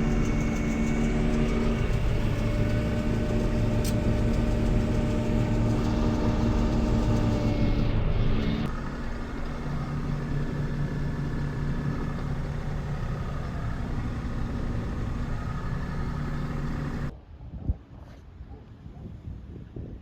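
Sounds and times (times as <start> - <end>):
farm machine engine droning: 0.0 - 17.1.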